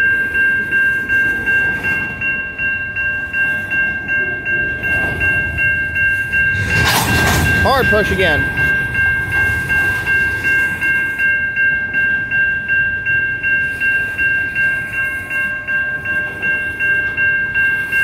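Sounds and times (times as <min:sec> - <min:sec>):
electronic crossing bell ringing: 0:00.0 - 0:06.7, 0:07.4 - 0:18.0
railcars rolling rumble: 0:00.0 - 0:18.0.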